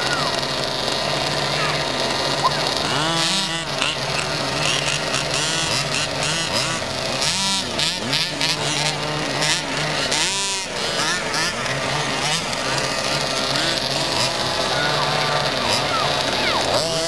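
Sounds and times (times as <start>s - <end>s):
engine throttle blips: 0.0s - 17.0s
small two-stroke engines idling: 0.0s - 17.0s.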